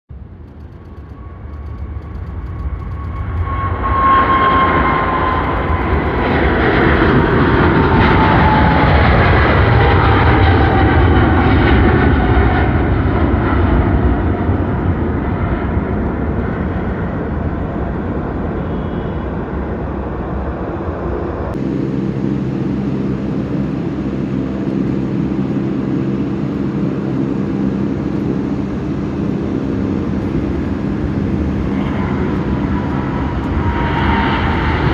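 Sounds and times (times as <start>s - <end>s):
aircraft engine drone: 0.1s - 34.9s
airliner engine whine passing: 0.1s - 34.9s.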